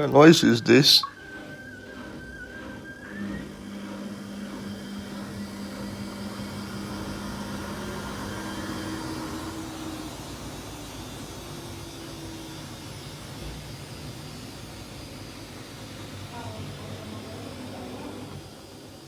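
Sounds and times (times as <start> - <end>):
washing machine spinning: 0.0 - 19.0
washing machine whine: 0.0 - 19.0.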